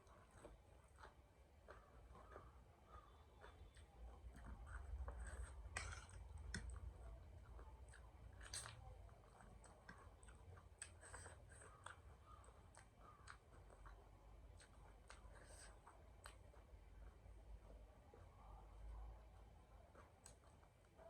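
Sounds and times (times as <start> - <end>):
chewing crunchy snack: 0.0 - 17.3, 19.7 - 21.0.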